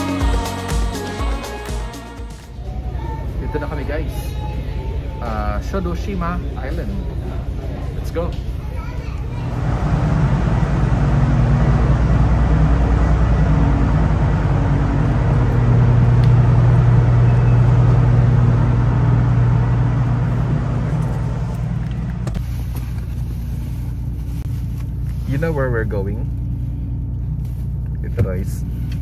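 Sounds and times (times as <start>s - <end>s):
ship engines droning: 0.0s - 29.0s.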